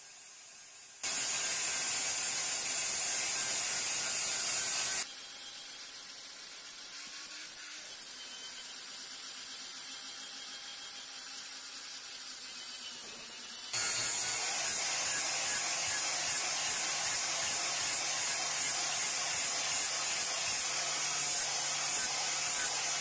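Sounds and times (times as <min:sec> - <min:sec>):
angle grinder grinding metal: 0:01.0 - 0:23.0.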